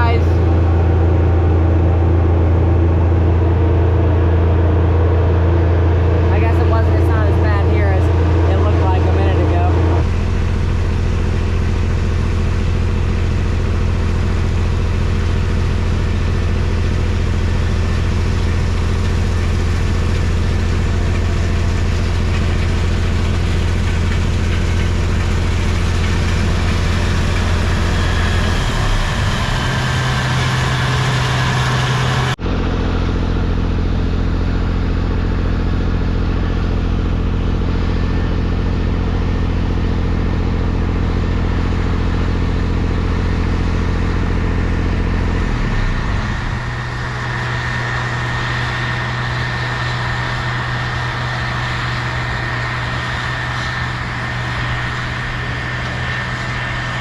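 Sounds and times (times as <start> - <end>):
tractor engine drone: 0.0 - 57.0.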